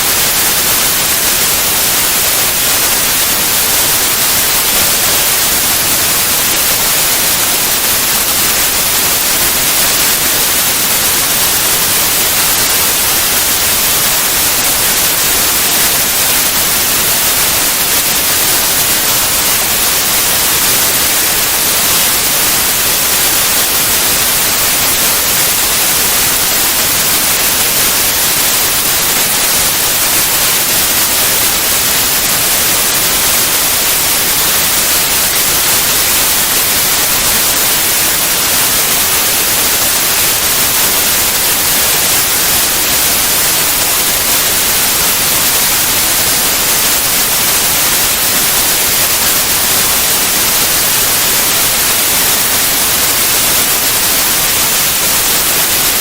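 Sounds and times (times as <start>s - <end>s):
steady white noise: 0.0s - 56.0s.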